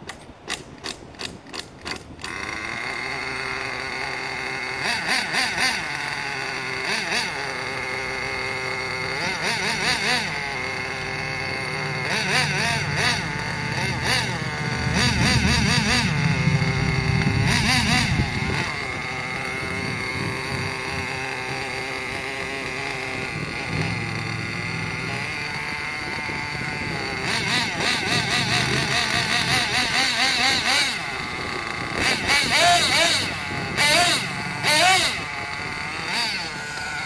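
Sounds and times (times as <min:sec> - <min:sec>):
model buggy engine revving: 0:00.0 - 0:37.0.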